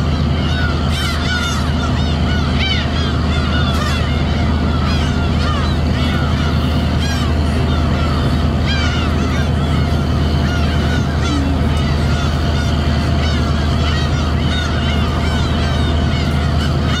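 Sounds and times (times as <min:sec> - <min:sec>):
boat engine drone: 0:00.0 - 0:17.0
gulls calling: 0:00.0 - 0:17.0.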